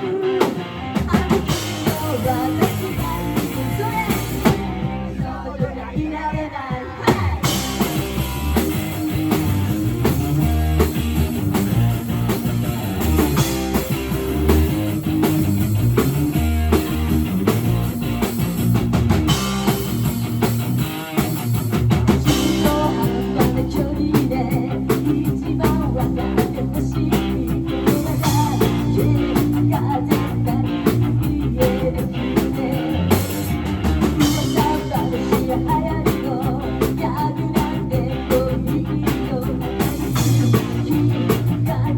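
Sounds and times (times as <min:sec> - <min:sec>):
electric guitar: 0:00.0 - 0:06.0, 0:06.8 - 0:41.9
bass guitar: 0:00.0 - 0:41.9
drum kit beat: 0:00.0 - 0:41.9.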